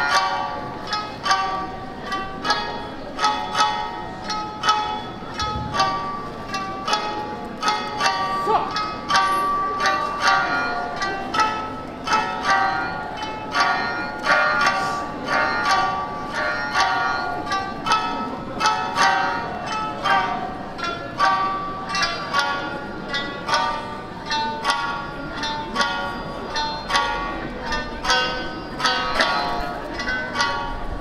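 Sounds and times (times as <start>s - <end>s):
plucked-string music: 0.0s - 31.0s.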